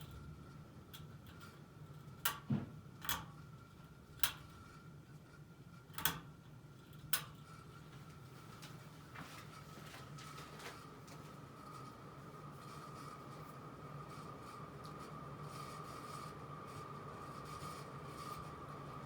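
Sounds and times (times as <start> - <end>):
ceiling fan humming: 0.0 - 19.0
faint fan whine: 0.0 - 19.0.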